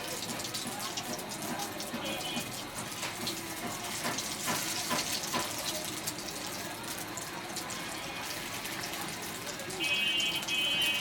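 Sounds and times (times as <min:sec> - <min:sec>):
chicken sizzling in hot oil: 0:00.0 - 0:11.0
oil crackling and popping: 0:00.0 - 0:11.0.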